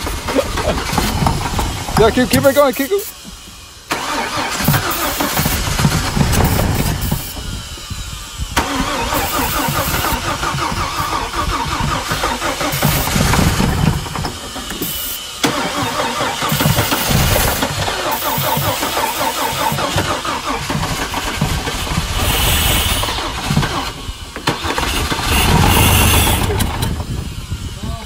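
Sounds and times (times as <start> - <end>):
engine running rough: 0.0 - 28.0.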